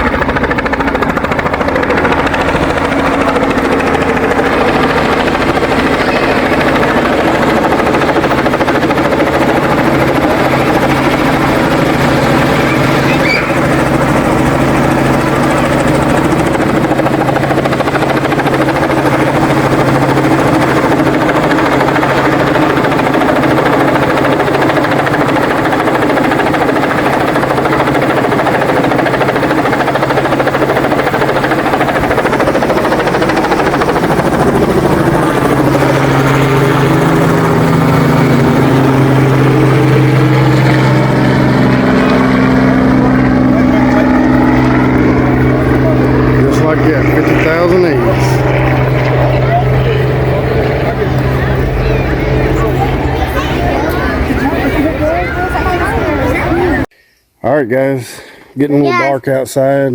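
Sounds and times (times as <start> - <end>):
helicopter rotor and engine drone: 0.0 - 56.9, 58.2 - 59.9.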